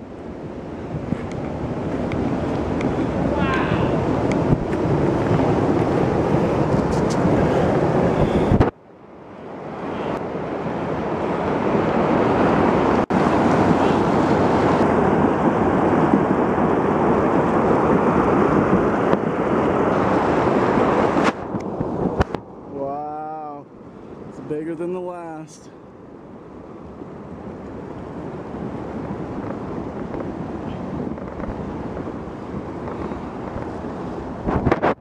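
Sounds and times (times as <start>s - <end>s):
floodwater rushing: 0.0s - 34.7s
wind buffeting microphone: 0.0s - 35.0s.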